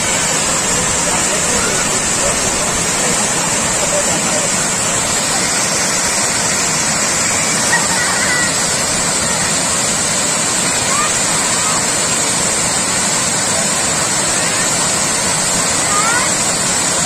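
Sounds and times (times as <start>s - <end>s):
water pouring over a dam: 0.0s - 17.0s.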